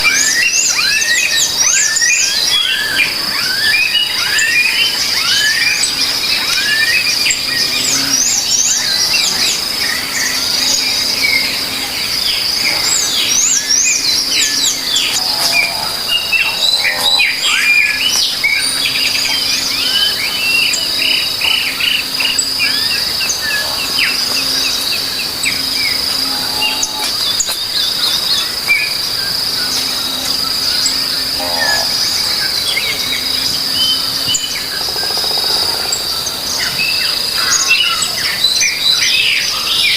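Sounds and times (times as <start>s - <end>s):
birds chirping and trilling: 0.0s - 39.9s
high-pitched insect drone: 0.0s - 39.9s.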